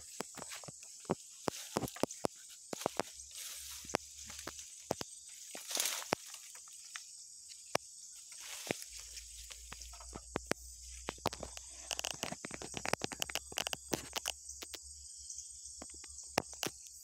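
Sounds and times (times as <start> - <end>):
brush rustling: 0.0 - 14.3
twigs snapping underfoot: 0.0 - 14.8, 15.8 - 17.0.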